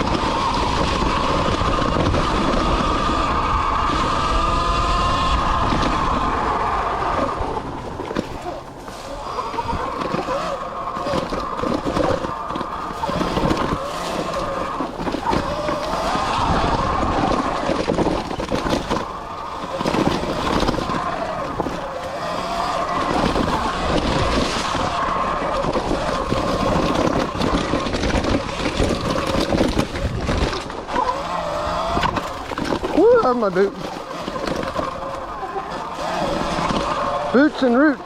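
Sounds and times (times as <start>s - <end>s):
wind on microphone: 0.0s - 37.4s
bike knocking and rattling: 0.0s - 38.0s
electric motor and chain whine: 0.0s - 38.0s.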